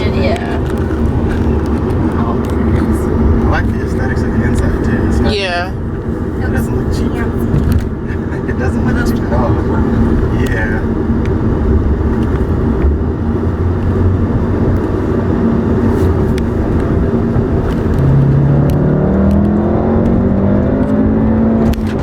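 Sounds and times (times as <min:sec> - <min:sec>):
car engine accelerating: 0:00.0 - 0:22.0
road noise inside car: 0:00.0 - 0:22.0.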